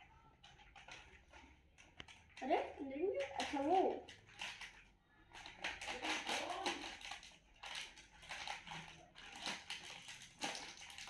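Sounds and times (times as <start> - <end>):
plastic packet crinkling: 0.3 - 11.0.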